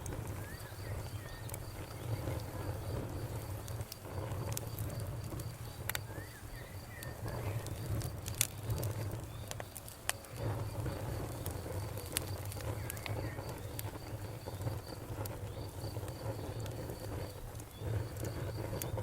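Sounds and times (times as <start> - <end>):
campfire popping and snapping: 0.0 - 19.0.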